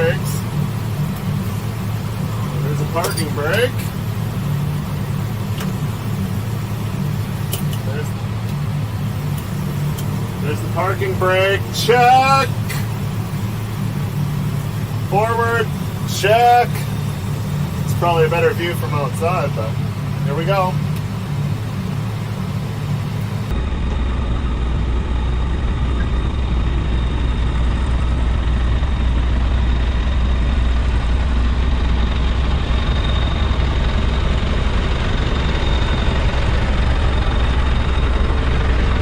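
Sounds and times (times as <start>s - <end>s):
diesel engine low drone: 0.0s - 39.0s
high steady whine: 0.0s - 39.0s.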